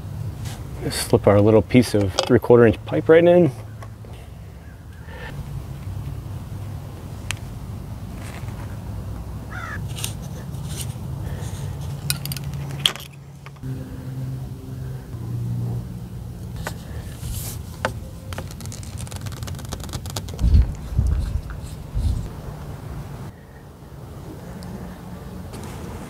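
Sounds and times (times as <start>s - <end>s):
low steady rumble: 3.6s - 26.0s.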